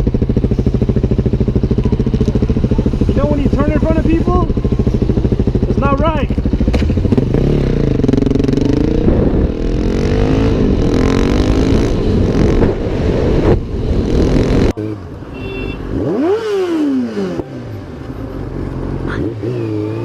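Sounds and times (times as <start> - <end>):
engine revving: 0.0 - 20.0
motorcycle engine running: 0.0 - 20.0
traffic: 0.0 - 20.0.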